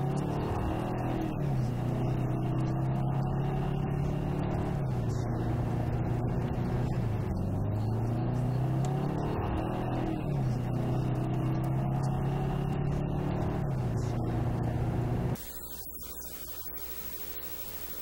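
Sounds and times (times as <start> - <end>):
car engine running: 0.0 - 15.4
road rumble: 0.0 - 15.4.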